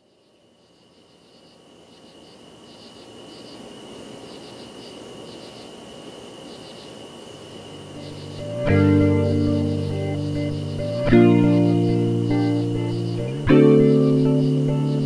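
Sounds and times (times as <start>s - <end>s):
insects chirping: 0.0s - 15.0s
steady high whine: 0.0s - 15.0s.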